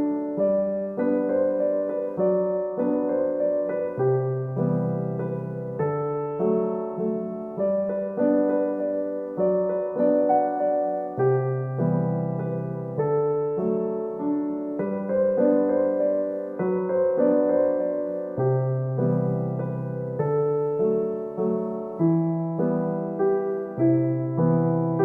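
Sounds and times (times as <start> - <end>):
gentle solo piano piece: 0.0 - 25.0.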